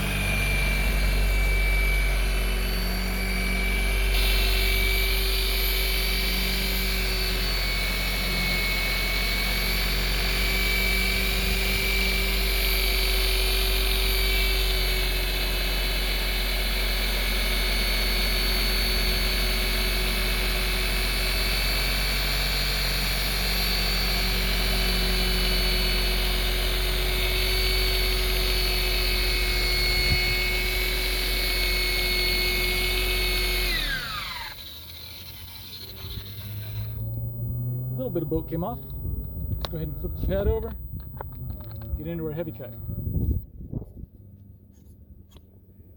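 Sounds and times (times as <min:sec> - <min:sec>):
motor winding down: 0:00.0 - 0:43.5
rotary buffer running: 0:00.0 - 0:44.2.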